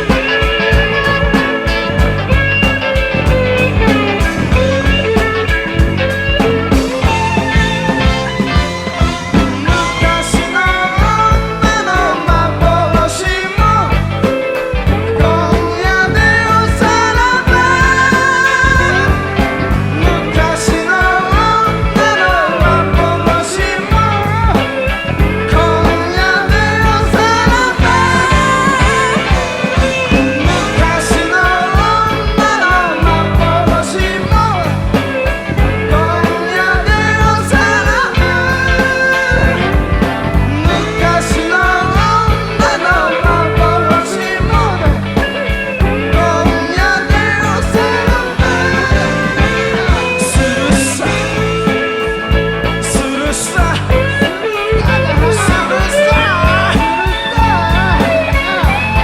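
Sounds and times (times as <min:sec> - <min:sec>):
bass guitar: 0:00.0 - 0:59.0
electric guitar bending lines: 0:00.0 - 0:59.0
rock band playing: 0:00.0 - 0:59.0
steady drum beat: 0:00.0 - 0:59.0.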